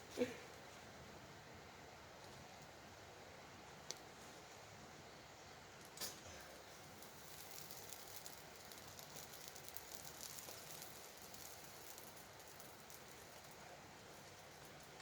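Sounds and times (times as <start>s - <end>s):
campfire crackling and hissing: 0.0s - 15.0s.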